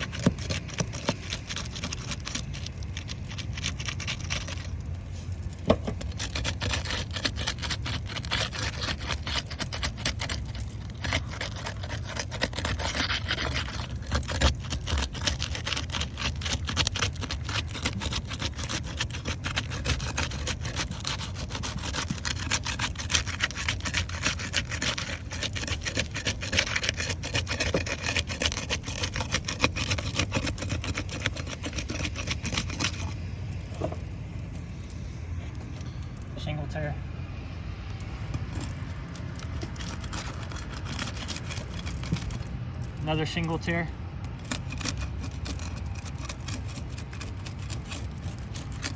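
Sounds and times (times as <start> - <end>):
shingles scraping and crackling: 0.0 - 36.7, 37.8 - 48.9.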